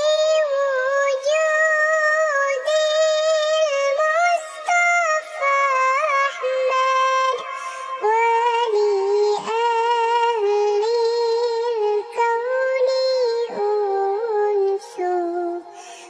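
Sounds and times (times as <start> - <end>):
person singing unaccompanied: 0.0 - 16.0.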